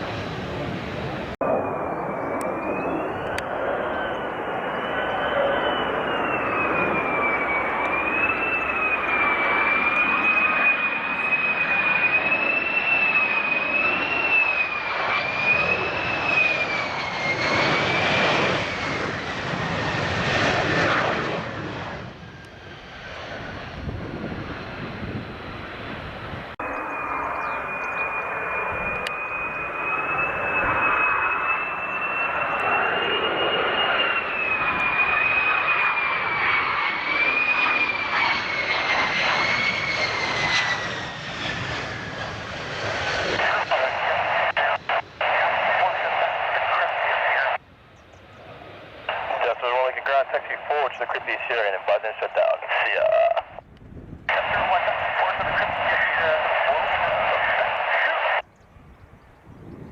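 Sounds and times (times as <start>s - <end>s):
jet engines whining and roaring: 0.0s - 59.9s.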